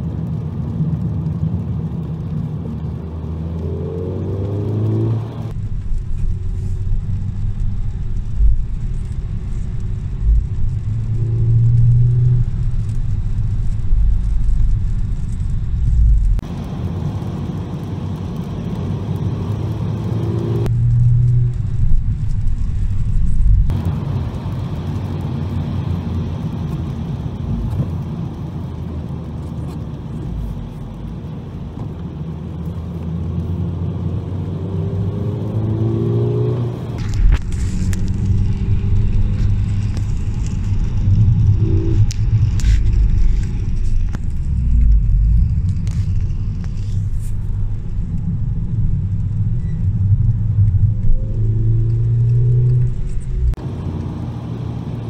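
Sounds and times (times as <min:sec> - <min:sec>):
tyre and road noise: 0:00.0 - 0:55.0
car engine accelerating: 0:02.0 - 0:55.0.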